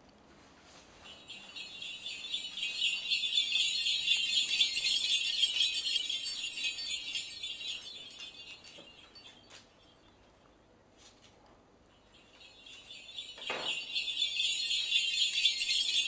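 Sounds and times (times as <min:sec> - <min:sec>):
small bells jingling: 0:00.9 - 0:10.6, 0:11.8 - 0:16.0.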